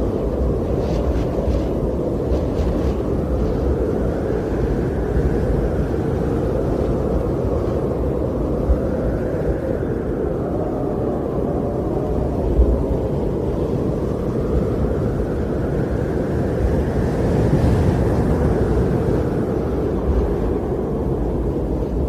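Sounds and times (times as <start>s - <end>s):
wind blowing: 0.0s - 22.0s.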